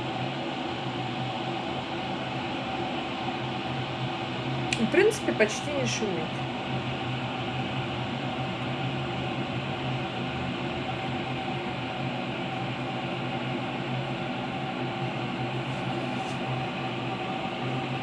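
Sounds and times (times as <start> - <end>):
electric kettle heating water: 0.0 - 18.0.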